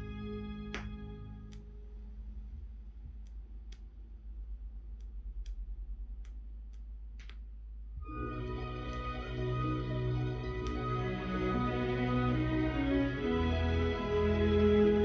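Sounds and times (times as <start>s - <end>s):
low rumble: 0.0s - 12.3s
music: 0.0s - 15.0s.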